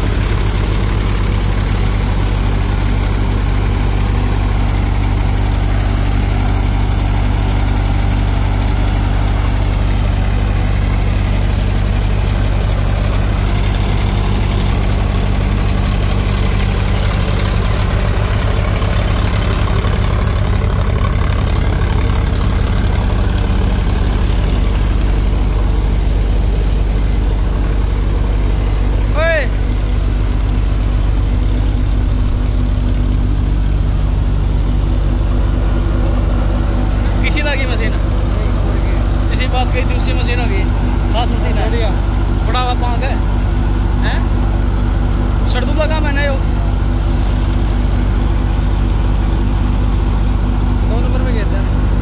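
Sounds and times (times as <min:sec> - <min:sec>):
tractor engine driving a thresher: 0:00.0 - 0:52.0.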